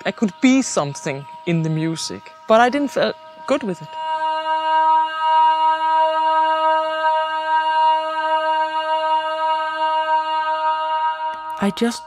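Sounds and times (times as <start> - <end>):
woman singing long note: 0.0 - 12.0.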